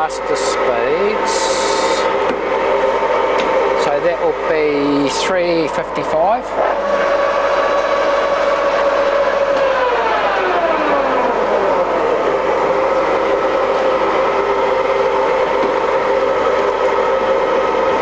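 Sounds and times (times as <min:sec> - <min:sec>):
lathe gear whine and hum: 0:00.0 - 0:18.0.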